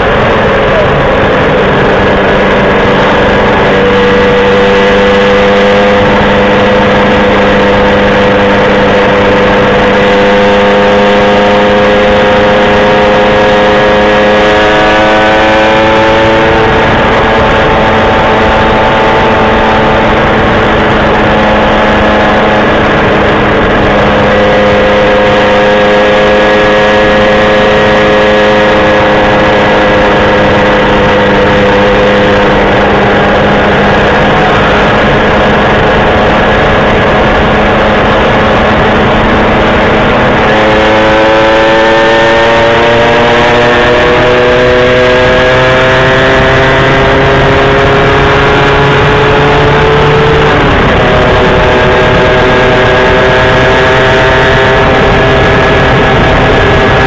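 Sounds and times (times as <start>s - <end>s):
constant low hum: 0.0s - 57.0s
vehicle engine running: 0.0s - 57.0s.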